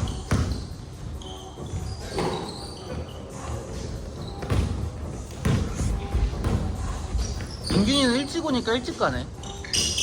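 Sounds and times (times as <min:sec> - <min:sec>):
basketball bouncing in a hall: 0:00.0 - 0:08.5, 0:09.4 - 0:10.0.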